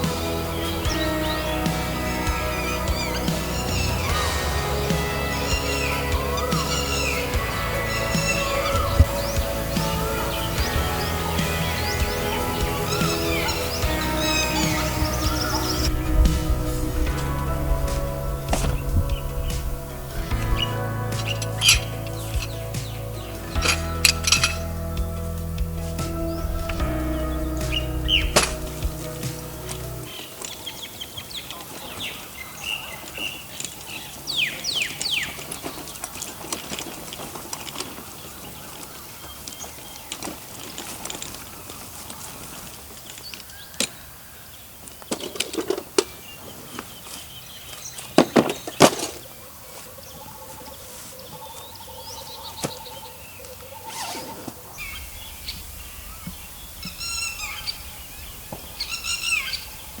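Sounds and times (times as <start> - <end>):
birds calling and chirping: 0.0 - 60.0.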